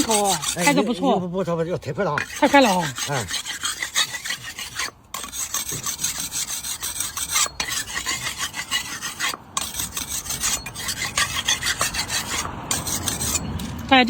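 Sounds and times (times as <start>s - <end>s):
cleaver blade rasping on sharpener: 0.0s - 1.0s, 2.2s - 13.9s.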